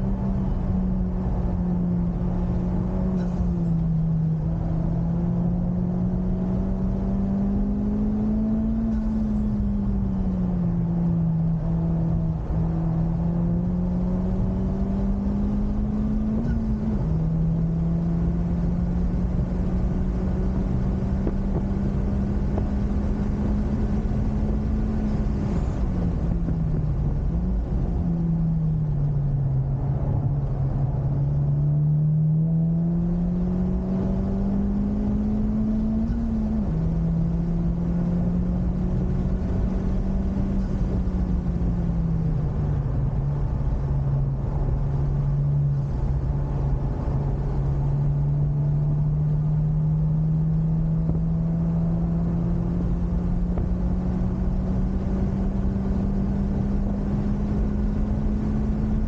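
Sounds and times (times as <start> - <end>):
car engine running hard: 0.0 - 59.0
road and wind noise: 0.0 - 59.0.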